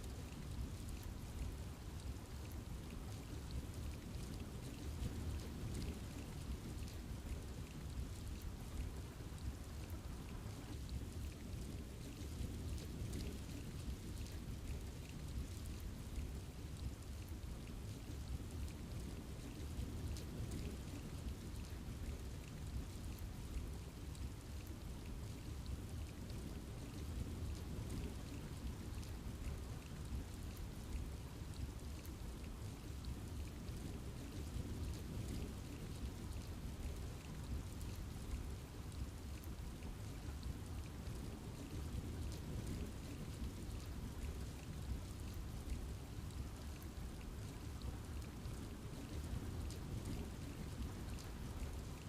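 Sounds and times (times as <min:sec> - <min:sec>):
rain in a forest: 0:00.0 - 0:52.0.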